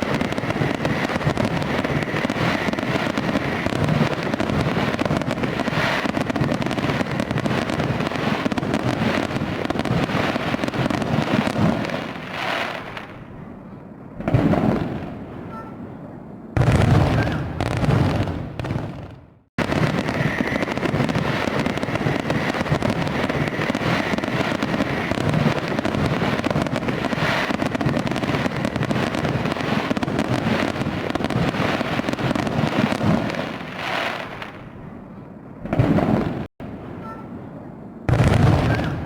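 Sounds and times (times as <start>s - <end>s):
loud firework burst: 0.0s - 13.1s, 16.6s - 34.6s, 38.1s - 39.0s
fireworks crackling and banging: 0.0s - 13.4s, 14.2s - 15.6s, 16.6s - 37.3s, 38.1s - 39.0s.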